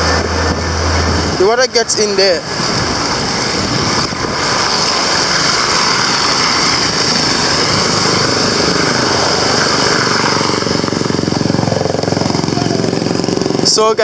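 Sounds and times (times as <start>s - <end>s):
traffic hiss: 0.0s - 14.0s
vehicle engine buzzing: 0.0s - 14.0s.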